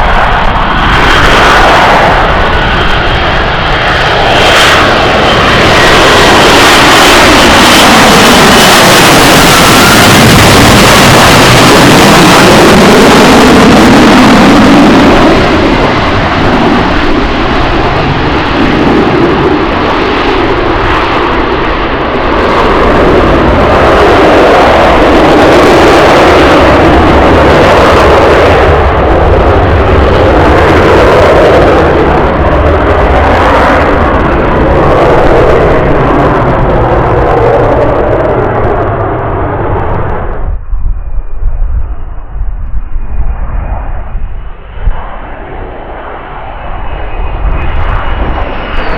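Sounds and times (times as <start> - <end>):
jet engine roar: 0.0 - 48.9.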